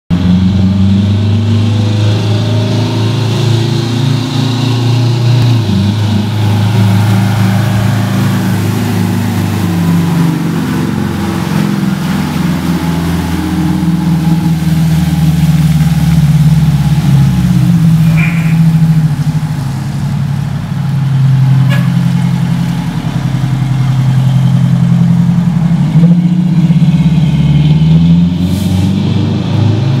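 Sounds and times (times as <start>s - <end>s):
truck diesel engine driving past: 0.1s - 30.0s.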